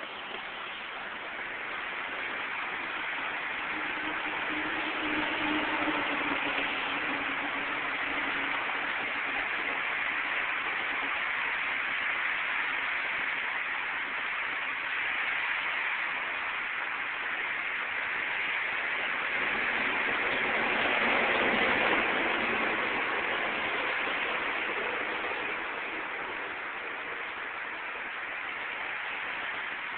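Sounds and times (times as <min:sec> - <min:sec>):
train running from inside car: 0:00.0 - 0:29.9.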